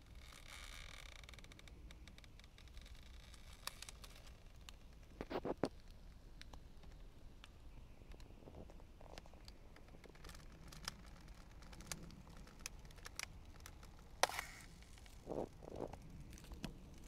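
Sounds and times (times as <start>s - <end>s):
faint clicks and ticks: 0.0s - 17.0s
soft crunches: 2.6s - 17.0s.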